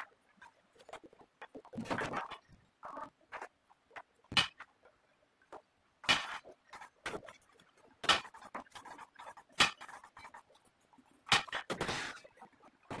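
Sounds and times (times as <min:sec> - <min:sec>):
knocks scrapes and rustles: 0:00.4 - 0:13.0.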